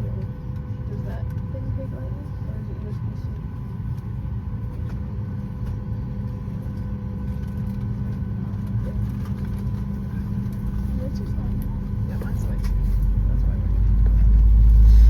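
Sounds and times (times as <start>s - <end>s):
airliner cabin rumble and hum: 0.0s - 15.0s.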